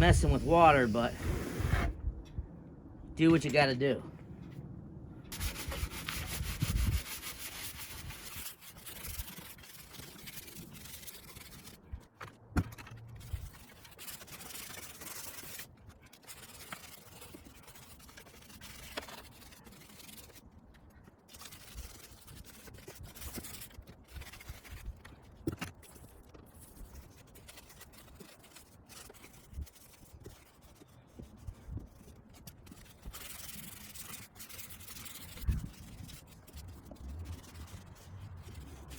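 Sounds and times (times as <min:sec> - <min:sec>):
brush scrubbing: 0:05.3 - 0:12.1, 0:12.9 - 0:20.5, 0:21.2 - 0:38.9.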